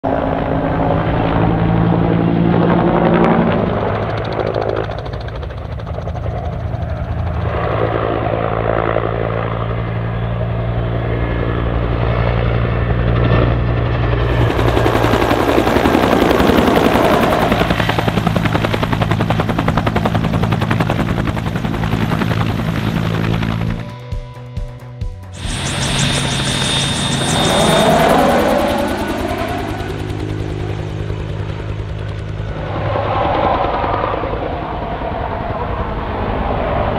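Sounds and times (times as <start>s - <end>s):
turbine engine hum: 0.0s - 36.9s
helicopter rotor beating: 0.1s - 36.9s.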